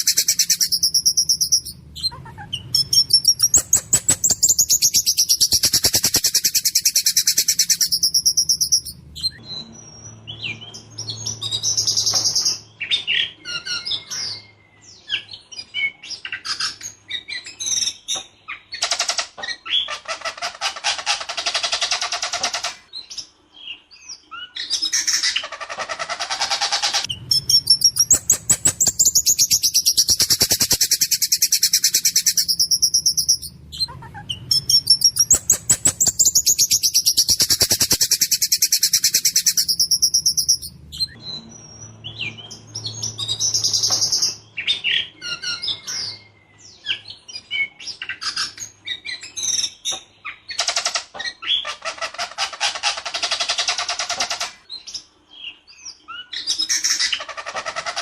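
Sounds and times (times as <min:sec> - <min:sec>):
songbird rattling song: 0:00.0 - 0:14.5, 0:15.1 - 0:23.4, 0:24.4 - 0:55.1.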